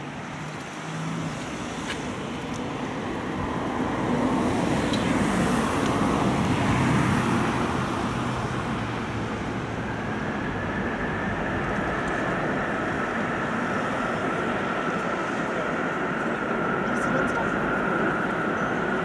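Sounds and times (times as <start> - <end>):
high jet engine whine: 0.0 - 19.0
jet engines rumbling and roaring: 0.0 - 19.0.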